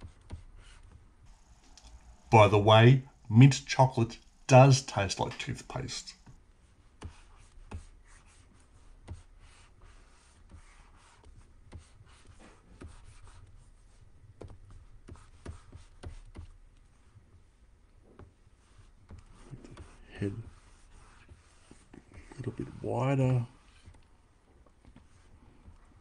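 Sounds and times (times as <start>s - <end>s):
stylus scratching on tablet: 0.0s - 1.5s, 5.7s - 24.1s, 24.8s - 26.0s.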